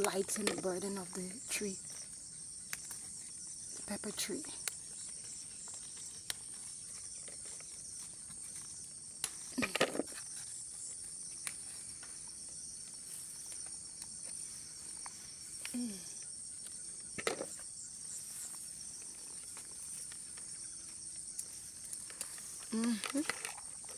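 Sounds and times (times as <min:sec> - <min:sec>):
crickets chirping chorus: 0:00.0 - 0:23.9.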